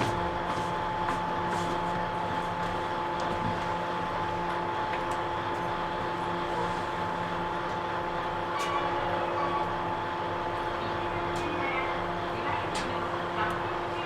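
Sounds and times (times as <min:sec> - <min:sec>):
train interior rumble and hum: 0:00.0 - 0:14.0.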